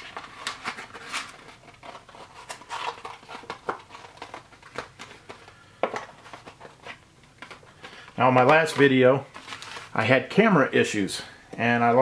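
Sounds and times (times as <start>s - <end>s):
plastic and foil pouches crinkling: 0.0s - 10.2s.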